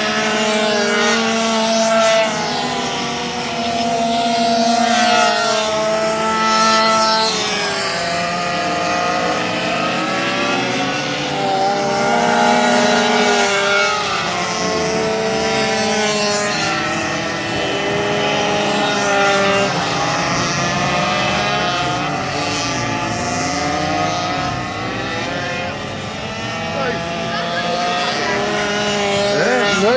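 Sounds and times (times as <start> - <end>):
minibike racing engines: 0.0 - 29.9.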